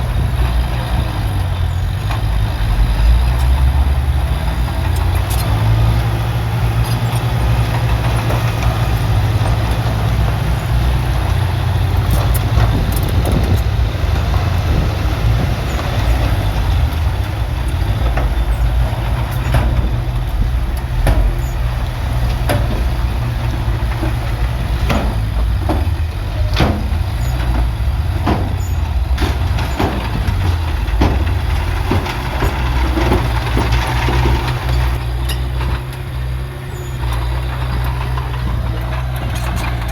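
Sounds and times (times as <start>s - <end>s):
heavy diesel engine rumbling: 0.0s - 39.9s
metallic clanks and knocks: 4.8s - 39.9s.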